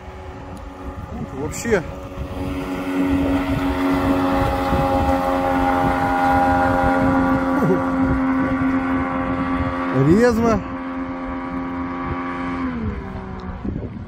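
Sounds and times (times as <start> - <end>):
water rushing: 0.0 - 13.4
outboard motor running at high speed: 0.0 - 14.0
wind: 0.0 - 14.0.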